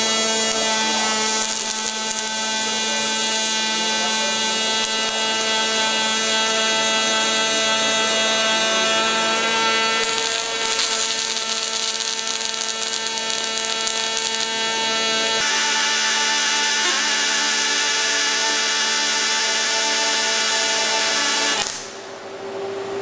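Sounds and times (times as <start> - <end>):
welding arc crackling: 0.0 - 22.0
steady hum: 0.0 - 23.0.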